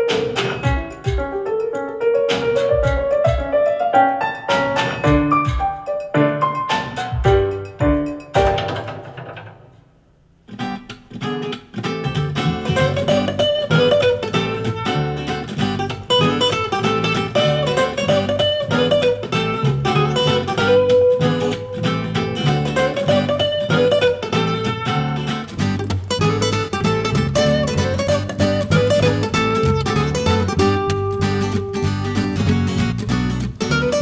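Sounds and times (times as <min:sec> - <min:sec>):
strummed acoustic guitar: 0:00.0 - 0:03.7, 0:10.5 - 0:34.0
recorded music ringing out: 0:00.0 - 0:34.0.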